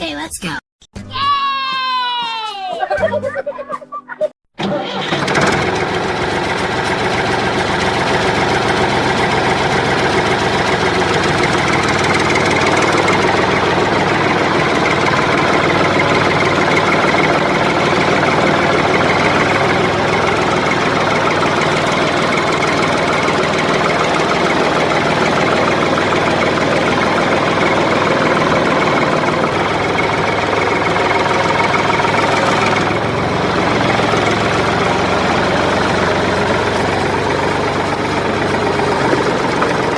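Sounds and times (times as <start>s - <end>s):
motor running steadily: 5.0s - 39.9s.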